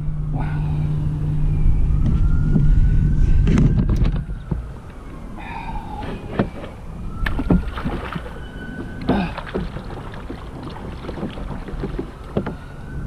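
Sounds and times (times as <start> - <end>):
water moving around hull: 0.0 - 13.0.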